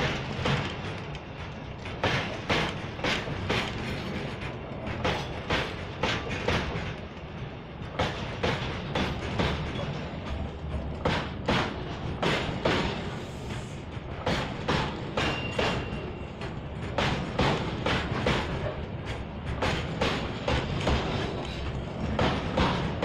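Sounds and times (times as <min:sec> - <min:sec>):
train rumble: 0:00.0 - 0:23.0
train wheels clattering over rail joints: 0:00.0 - 0:23.0.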